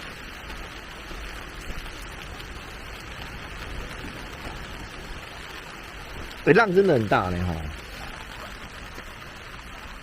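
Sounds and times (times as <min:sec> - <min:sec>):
heavy rain hissing: 0:00.0 - 0:10.0
strong wind: 0:00.0 - 0:10.0.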